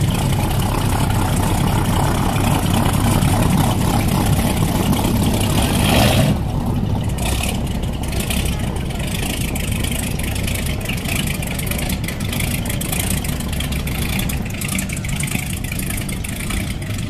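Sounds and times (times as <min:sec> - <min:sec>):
boat engine idling: 0:00.0 - 0:17.0
broad rush of noise: 0:00.0 - 0:17.0.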